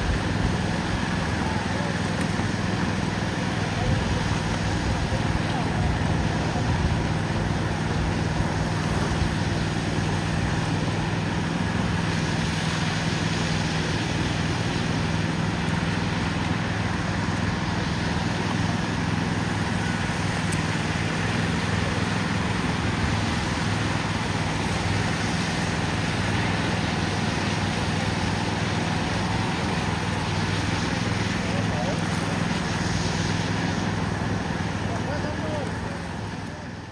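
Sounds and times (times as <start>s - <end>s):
heavy engine running: 0.0s - 36.9s.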